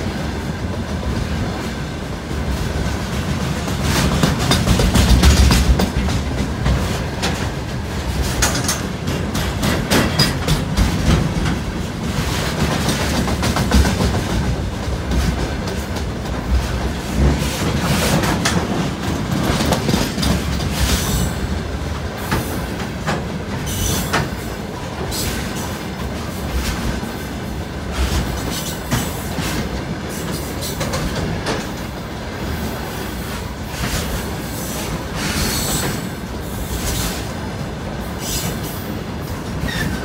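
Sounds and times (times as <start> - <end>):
train wheels clattering over joints: 2.4 - 40.0.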